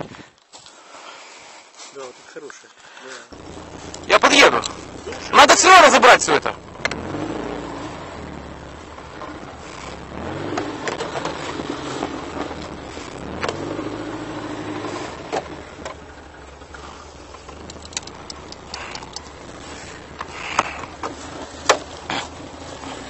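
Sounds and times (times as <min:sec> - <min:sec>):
off-road vehicle engine running: 0:03.3 - 0:23.0.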